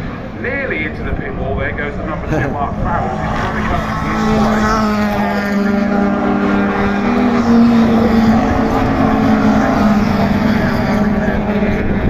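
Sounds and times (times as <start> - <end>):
race car engines howling: 0.0 - 12.0.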